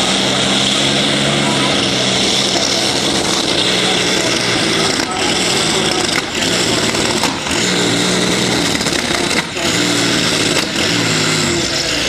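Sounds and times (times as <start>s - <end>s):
tractor engine high-revving drone: 0.0s - 12.0s.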